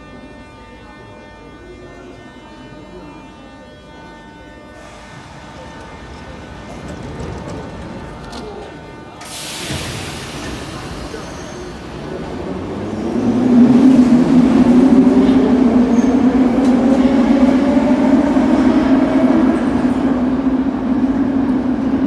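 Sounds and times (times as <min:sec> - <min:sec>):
train traction motors whining: 0:03.7 - 0:22.0.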